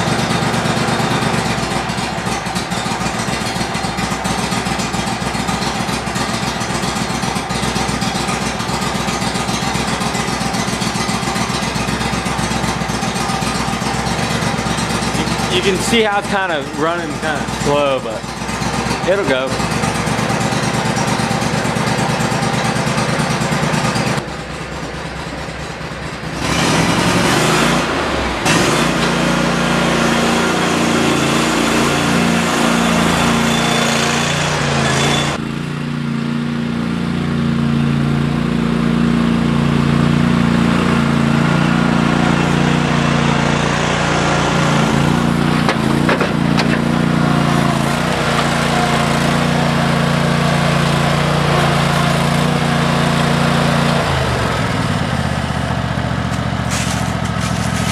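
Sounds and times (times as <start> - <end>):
riding mower engine running: 0.0 - 57.9.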